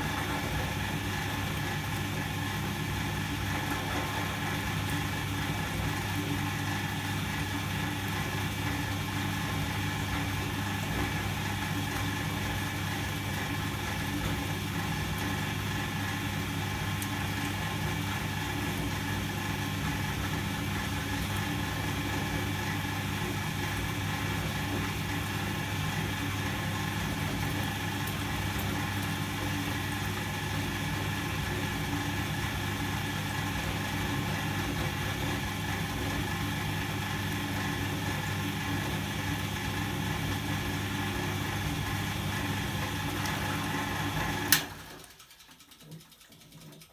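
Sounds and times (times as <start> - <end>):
washing machine motor humming: 0.0 - 46.9.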